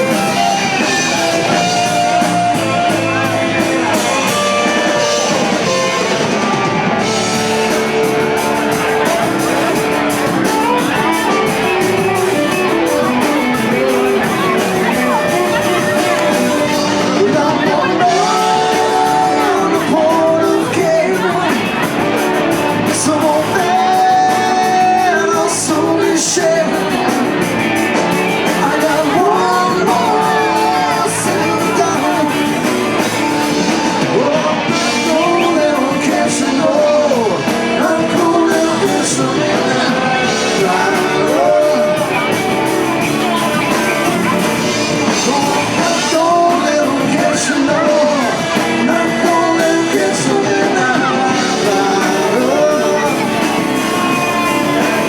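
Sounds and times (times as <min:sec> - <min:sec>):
drums and cymbals: 0:00.0 - 0:55.0
lead singer singing: 0:00.0 - 0:55.0
live rock band playing: 0:00.0 - 0:55.0.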